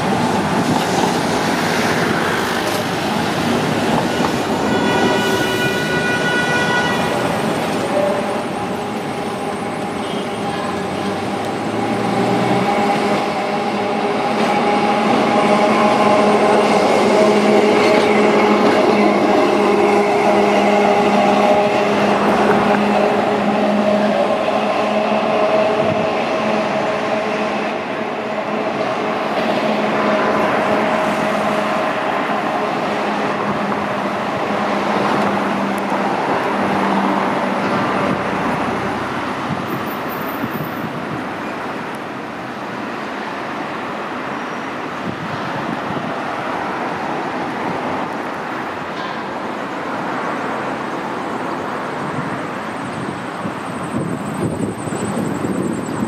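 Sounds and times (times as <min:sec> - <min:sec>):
rumble of trams and traffic: 0:00.0 - 0:56.0.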